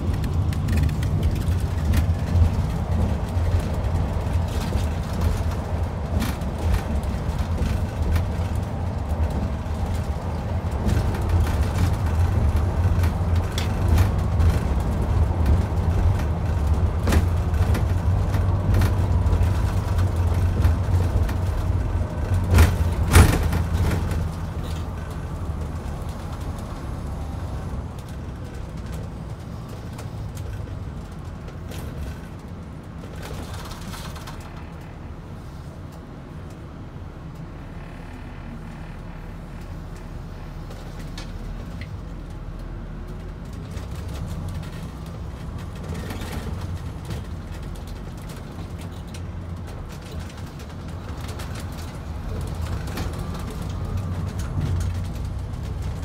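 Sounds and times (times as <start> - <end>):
coach diesel engine hum: 0.0 - 56.0.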